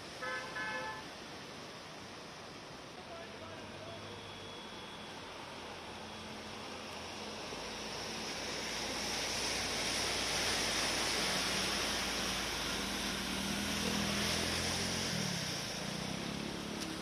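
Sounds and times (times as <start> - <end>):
traffic through flood water: 0.0 - 17.0
vehicle engine hum: 3.2 - 17.0.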